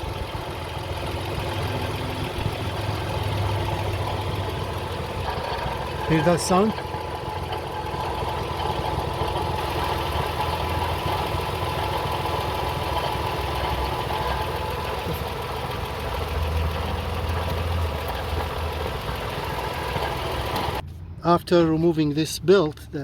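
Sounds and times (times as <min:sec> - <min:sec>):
car engine idling with whine: 0:00.0 - 0:21.1.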